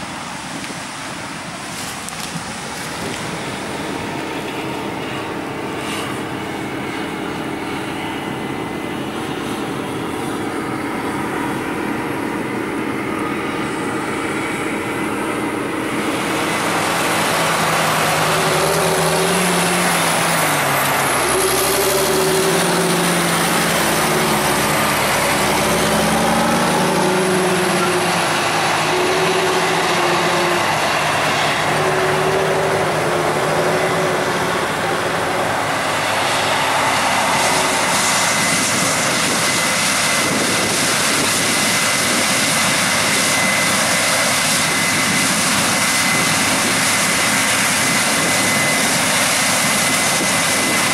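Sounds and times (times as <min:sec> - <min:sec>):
diesel machinery engines running: 0:00.0 - 0:50.9.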